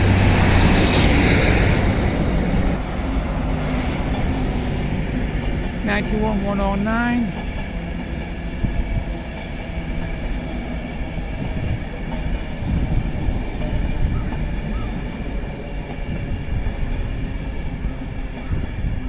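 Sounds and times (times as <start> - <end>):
electric train running past: 0.0 - 19.0.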